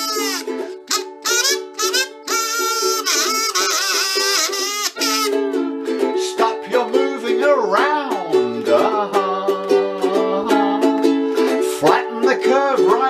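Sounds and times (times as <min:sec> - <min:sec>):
kazoo melody: 0:00.0 - 0:13.0
ukulele strumming chords: 0:00.0 - 0:13.0.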